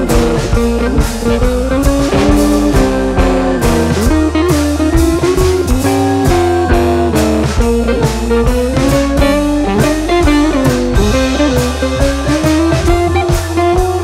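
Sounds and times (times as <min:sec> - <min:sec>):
guitar-led tune with bass and drums: 0:00.0 - 0:14.0.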